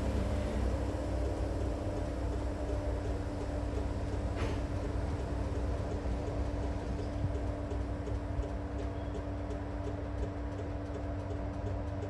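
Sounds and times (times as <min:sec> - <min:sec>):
train hum: 0:00.0 - 0:12.0
train rumbling over tracks: 0:00.0 - 0:12.0.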